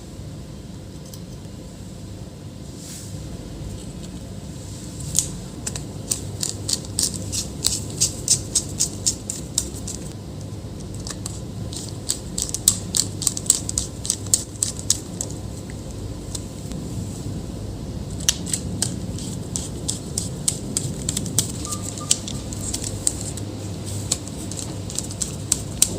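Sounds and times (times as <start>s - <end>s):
steady low background noise: 0.0s - 25.9s.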